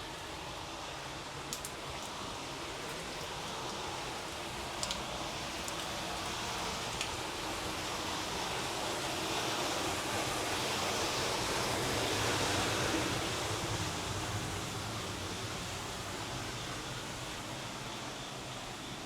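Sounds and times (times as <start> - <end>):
rushing water: 0.1 - 19.0.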